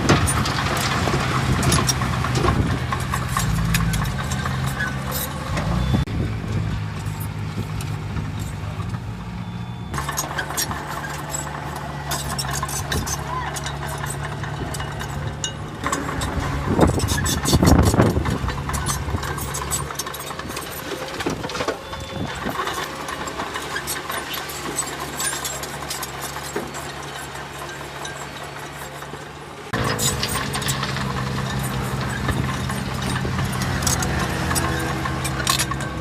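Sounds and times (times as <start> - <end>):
engine clatter: 0.0 - 36.0
heavy diesel engine running: 0.0 - 36.0.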